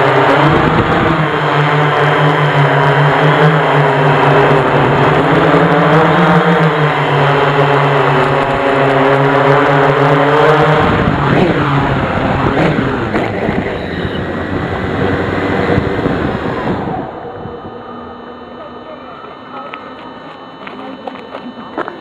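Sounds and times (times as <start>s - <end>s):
drone motors and propellers humming: 0.0s - 22.0s.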